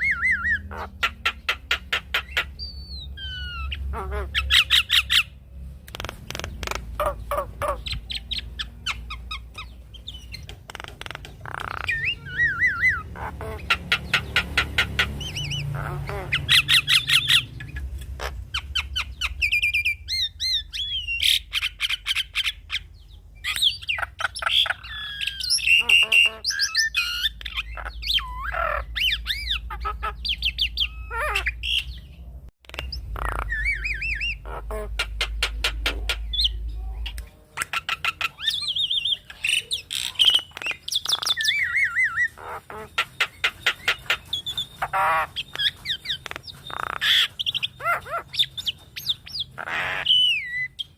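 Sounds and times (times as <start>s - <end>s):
bird whistles trills and chattering: 0.0s - 50.9s.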